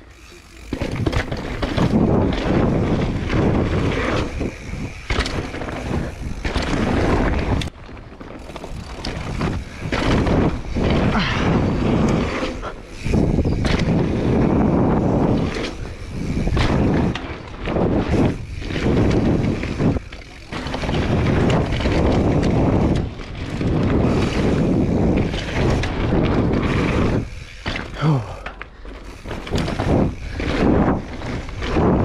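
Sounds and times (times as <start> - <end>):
bike tyres rumbling over dirt: 0.0 - 32.0
wind buffeting microphone: 0.9 - 7.8, 8.4 - 27.7, 29.1 - 32.0.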